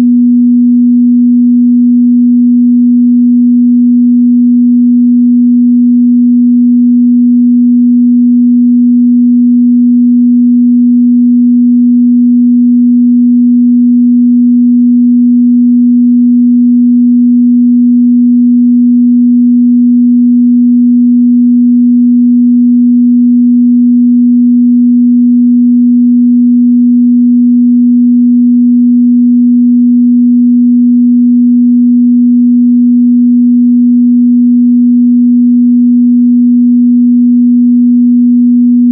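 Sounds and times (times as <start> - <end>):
sine wave test tone: 0.0 - 38.9.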